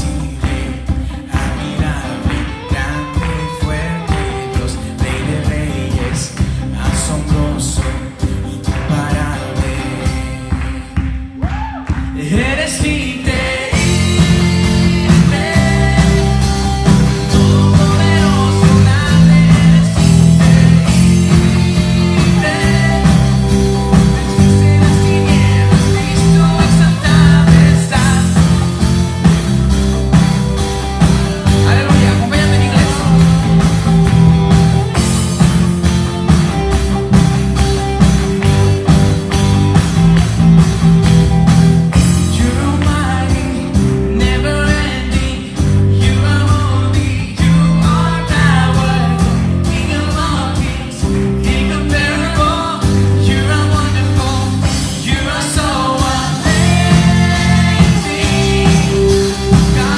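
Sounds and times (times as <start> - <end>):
man singing: 0.0 - 29.4, 30.1 - 35.6, 41.9 - 59.9
electric guitar: 0.0 - 59.9
keyboard: 0.0 - 59.9
steady drum beat: 0.0 - 59.9.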